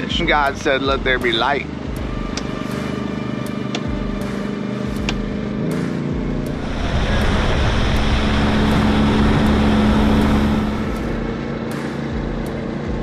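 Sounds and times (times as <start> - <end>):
boat motor humming: 0.0 - 13.0
wind: 0.0 - 13.0.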